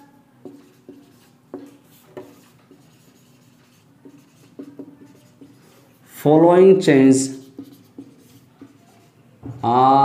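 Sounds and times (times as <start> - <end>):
marker pen writing on whiteboard: 0.0 - 9.5.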